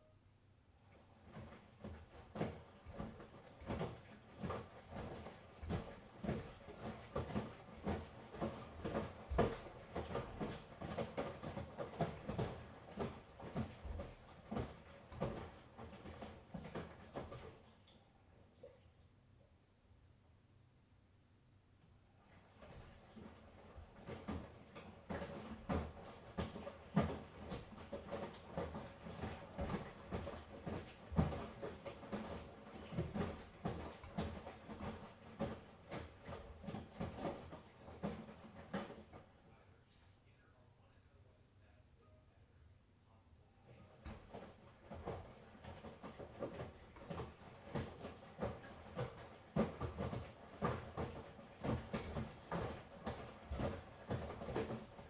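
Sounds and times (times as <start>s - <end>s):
laundry tumbling and sloshing: 0.9s - 18.0s, 22.2s - 39.5s, 43.8s - 55.0s.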